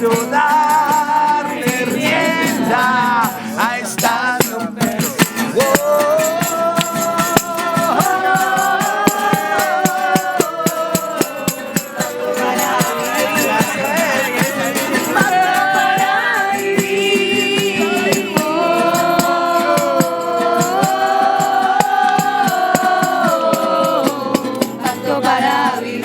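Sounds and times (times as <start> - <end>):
rattle shaken in a beat: 0.0 - 26.0
voices singing wordless melody: 0.0 - 26.0.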